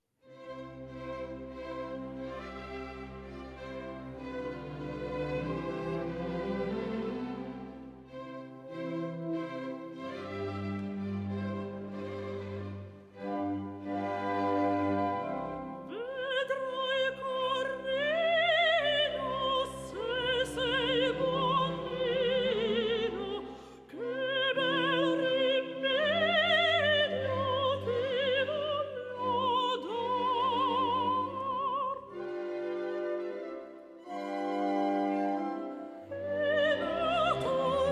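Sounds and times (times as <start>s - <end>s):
operatic singing with orchestra: 0.8s - 37.9s.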